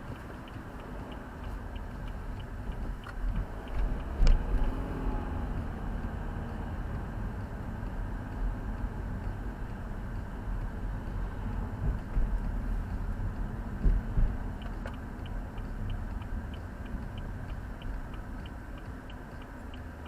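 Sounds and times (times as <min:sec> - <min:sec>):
car road and engine rumble: 0:00.0 - 0:20.0
faint regular ticking: 0:00.0 - 0:20.0.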